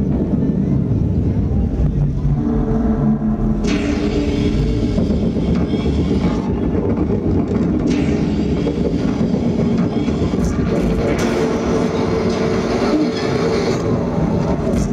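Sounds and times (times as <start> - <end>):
deep continuous rumble: 0.0 - 14.9
sustained droning tones: 1.2 - 14.9.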